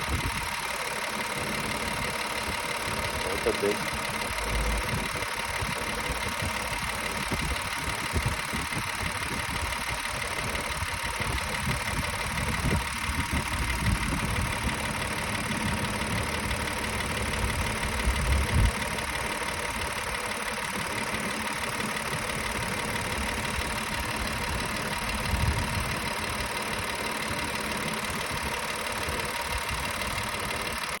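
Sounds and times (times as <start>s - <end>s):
car engine idling: 0.0s - 31.0s
engine low knock: 0.0s - 31.0s.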